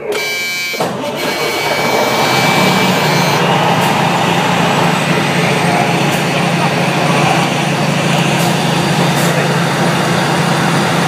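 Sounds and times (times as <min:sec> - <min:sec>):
diesel engine running loudly: 0:00.0 - 0:11.0
broad rushing noise: 0:01.3 - 0:11.0.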